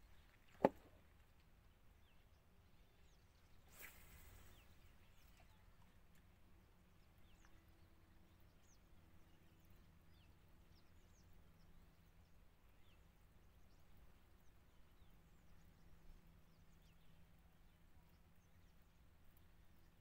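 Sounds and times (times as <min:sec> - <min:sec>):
faint small birds chirping: 0:00.0 - 0:20.0.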